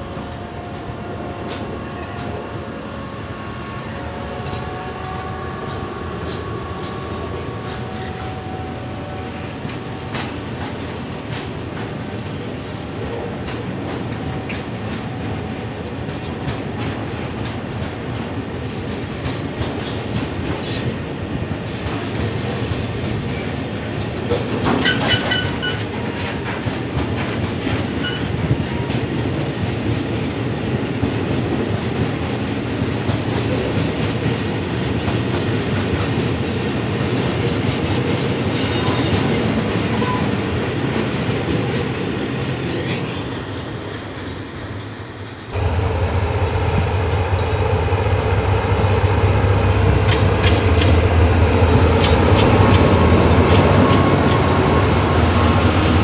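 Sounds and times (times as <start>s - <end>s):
diesel locomotive engine hum: 0.0s - 56.0s
freight train wheels on rails: 0.0s - 56.0s.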